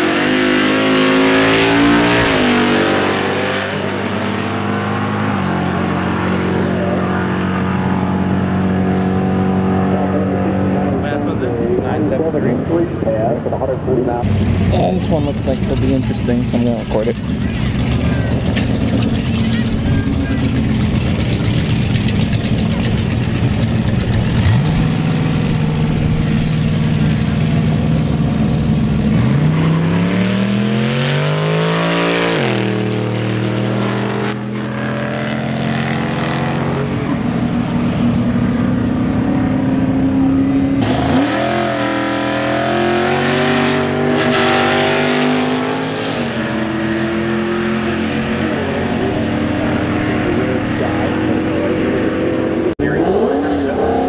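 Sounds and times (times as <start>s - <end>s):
drag racing cars accelerating: 0.0s - 54.0s.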